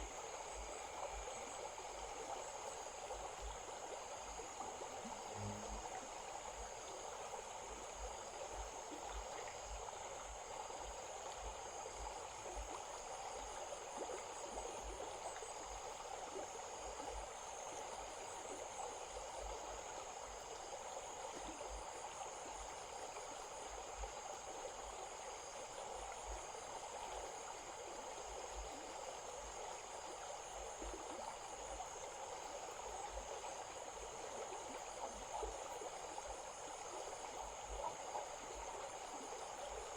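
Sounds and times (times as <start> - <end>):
insects droning: 0.0 - 39.9
stream running: 0.0 - 39.9.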